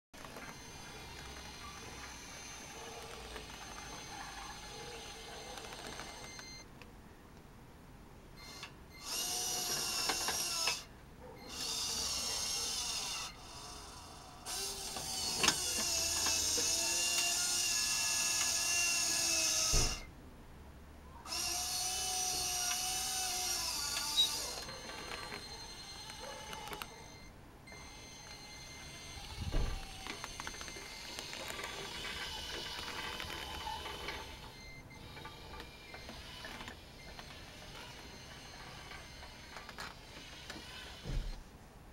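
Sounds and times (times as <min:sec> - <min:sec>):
toy gear motor whine: 0:00.2 - 0:06.6, 0:08.4 - 0:20.1, 0:21.3 - 0:41.4.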